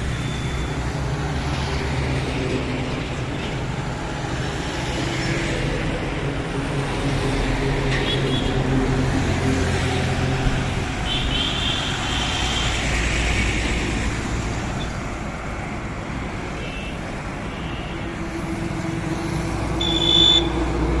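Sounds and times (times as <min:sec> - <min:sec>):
highway traffic rumble: 0:00.0 - 0:21.0.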